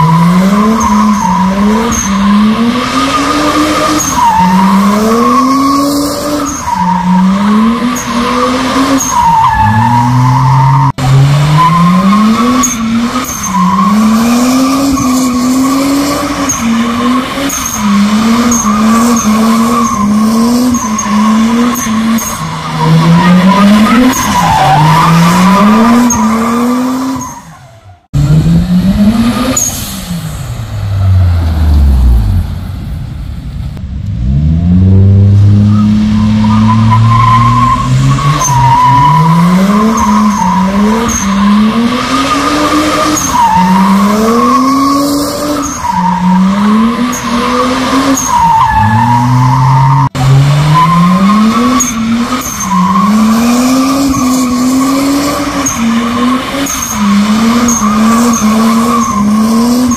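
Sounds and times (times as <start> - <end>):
car engine revving: 0.0 - 27.4, 28.0 - 59.9.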